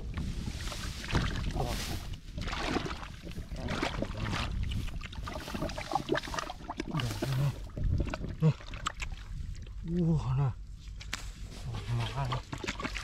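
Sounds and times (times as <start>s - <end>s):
hands splashing in muddy water: 0.2s - 9.7s, 11.0s - 13.0s.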